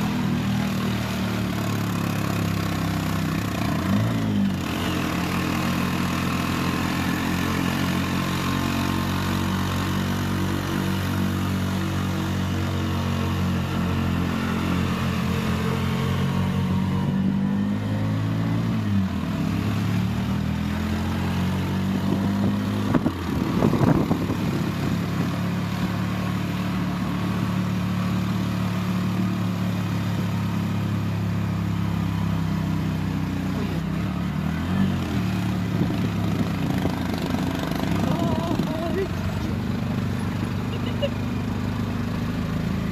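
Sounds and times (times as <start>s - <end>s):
bus engine running: 0.0s - 42.9s.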